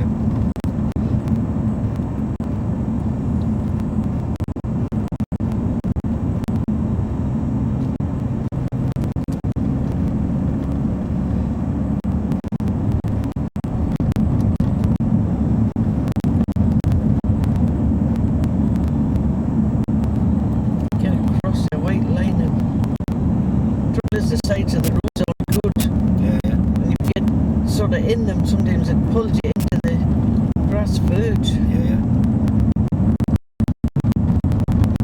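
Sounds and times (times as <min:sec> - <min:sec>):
vehicle engine and road noise: 0:00.0 - 0:35.0.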